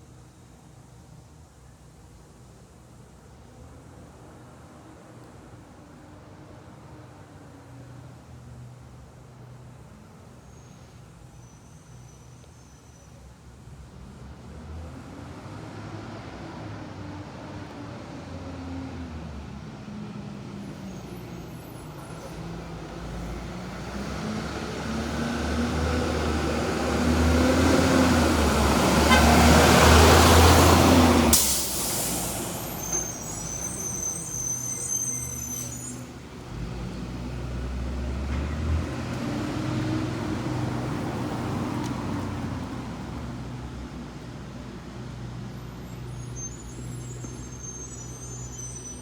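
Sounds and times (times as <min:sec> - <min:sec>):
bus engine driving past: 0:03.4 - 0:49.0.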